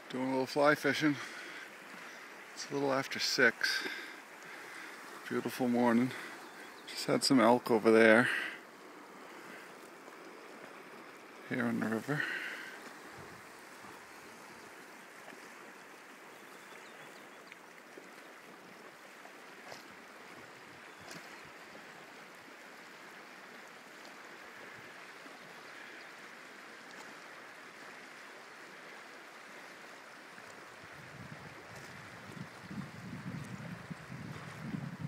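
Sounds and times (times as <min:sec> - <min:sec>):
river current rushing: 0:00.0 - 0:34.8.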